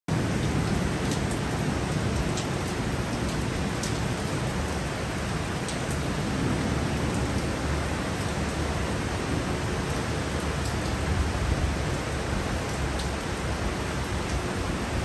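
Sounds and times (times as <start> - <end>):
raindrops ticking close by: 0.1 - 15.0.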